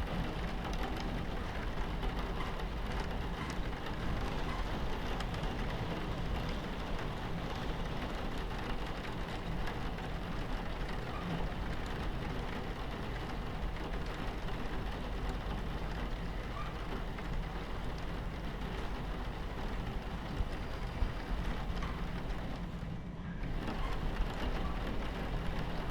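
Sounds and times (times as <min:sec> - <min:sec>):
rain pattering on window: 0:00.0 - 0:25.9
train rumbling on tracks: 0:00.0 - 0:25.9.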